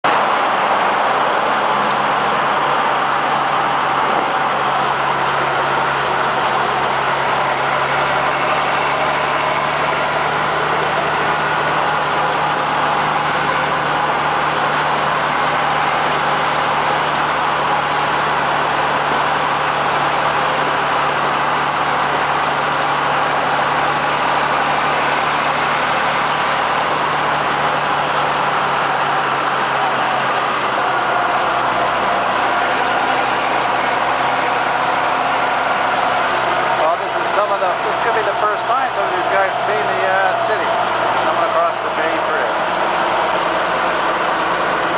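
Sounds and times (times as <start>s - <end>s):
road and wind noise: 0.0s - 44.9s
vehicle engine drone: 0.0s - 44.9s.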